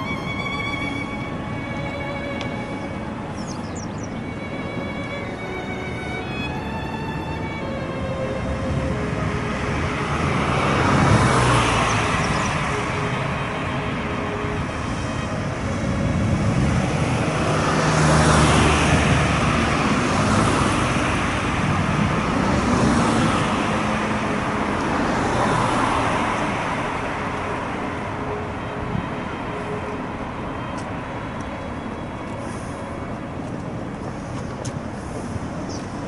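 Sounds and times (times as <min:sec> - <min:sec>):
road traffic: 0:00.0 - 0:36.0
vehicles passing: 0:00.0 - 0:36.0.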